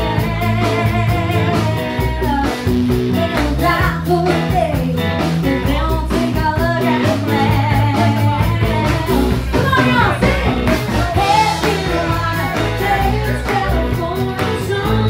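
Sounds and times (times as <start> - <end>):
live country band with guitar: 0.0 - 15.0
woman singing into microphone: 0.0 - 15.0.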